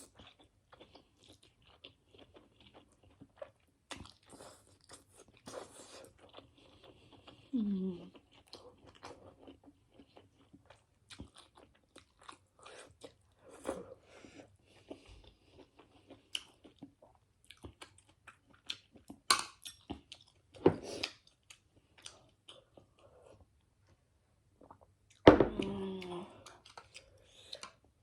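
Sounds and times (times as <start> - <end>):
person chewing noodles: 0.0 - 23.7, 24.6 - 25.2, 25.8 - 28.0.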